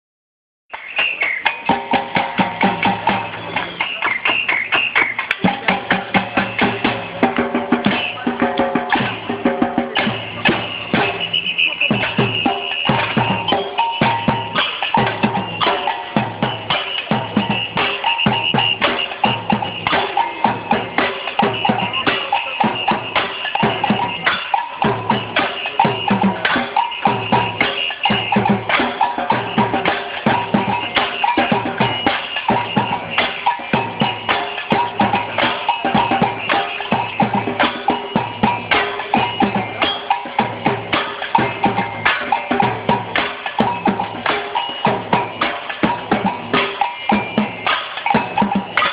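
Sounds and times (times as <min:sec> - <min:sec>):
samba percussion band: 0:00.7 - 0:48.9.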